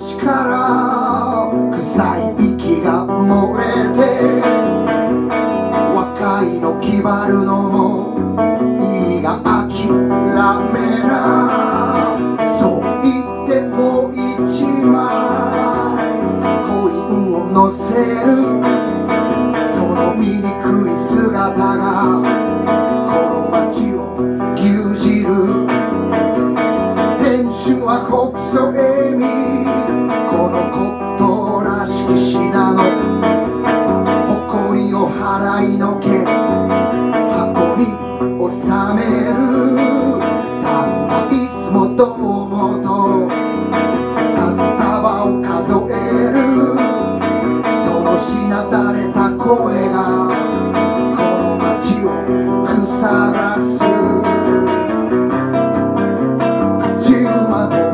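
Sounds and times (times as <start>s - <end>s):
man singing: 0.0s - 55.2s, 56.4s - 57.9s
electric guitar strumming: 0.0s - 57.9s.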